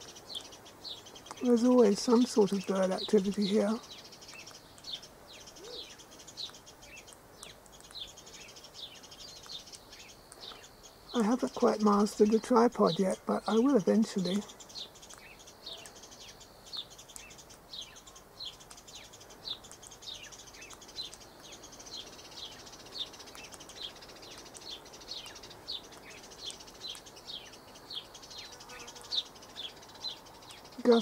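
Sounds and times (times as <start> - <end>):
bird chirping: 0.0 - 31.0
soft high hiss: 0.0 - 31.0.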